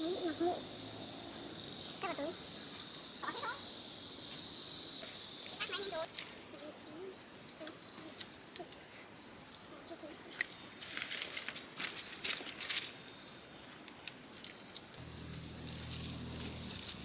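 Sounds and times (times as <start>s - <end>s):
insects shrill chorus: 0.0s - 11.8s, 12.8s - 17.0s.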